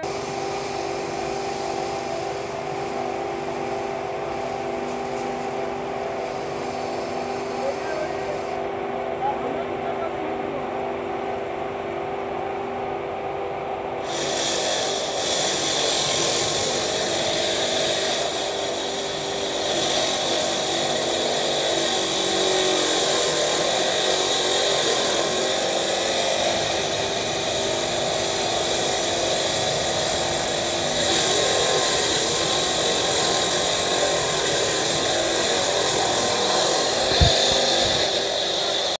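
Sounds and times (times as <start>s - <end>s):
blade grinding concrete: 0.0s - 8.6s, 14.0s - 39.0s
electric motor humming: 0.0s - 39.0s.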